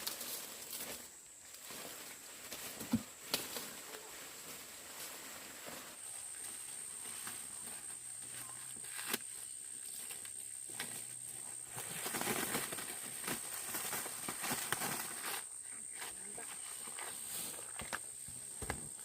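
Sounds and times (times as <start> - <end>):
dry corn plants rustling: 0.0 - 19.0.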